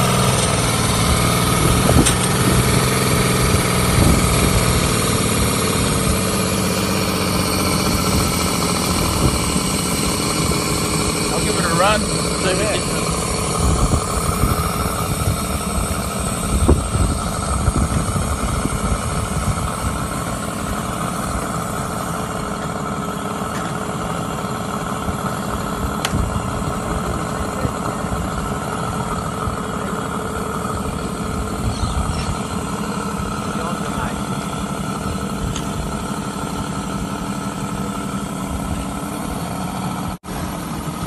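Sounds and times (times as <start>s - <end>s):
petrol engine idling: 0.0s - 41.0s.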